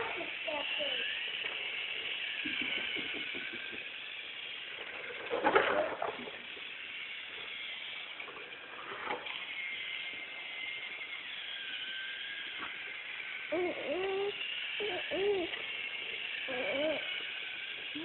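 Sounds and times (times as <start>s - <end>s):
toy airplane whirring: 0.0s - 18.0s.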